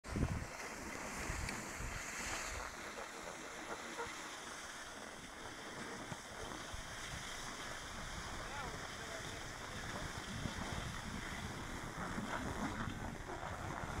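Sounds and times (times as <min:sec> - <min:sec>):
skis sliding on snow: 0:00.1 - 0:14.0
wind buffeting microphone: 0:00.1 - 0:14.0.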